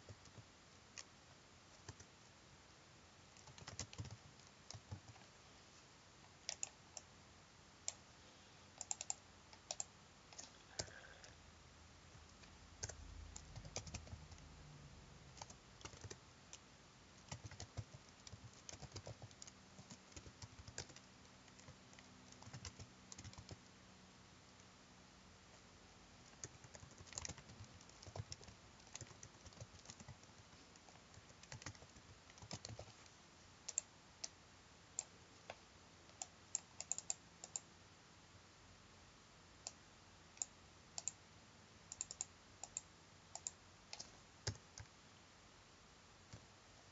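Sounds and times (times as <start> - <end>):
faint keyboard typing: 0.0 - 2.3, 3.3 - 5.4, 6.2 - 7.1, 7.8 - 8.1, 8.7 - 11.4, 12.0 - 23.9, 25.4 - 37.8, 39.6 - 41.2, 41.8 - 45.0, 46.2 - 46.6.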